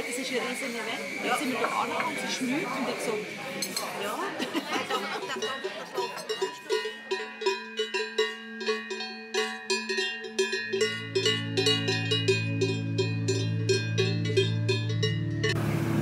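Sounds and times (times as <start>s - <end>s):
cowbells clanging: 1.2s - 15.7s.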